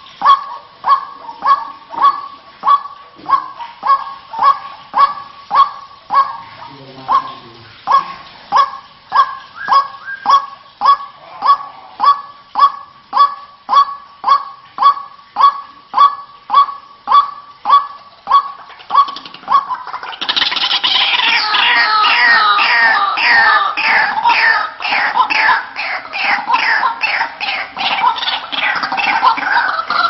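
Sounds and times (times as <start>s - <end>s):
waterhen calling: 0.0s - 30.0s.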